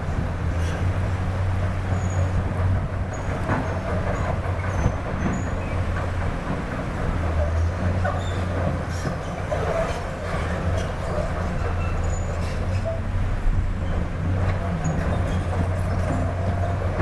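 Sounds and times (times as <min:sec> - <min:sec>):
diesel machinery engine rumble: 0:00.0 - 0:17.0.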